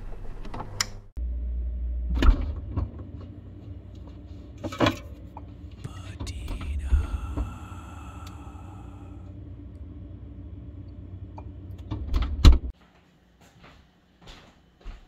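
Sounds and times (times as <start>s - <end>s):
refrigerator hum: 0.0s - 12.8s.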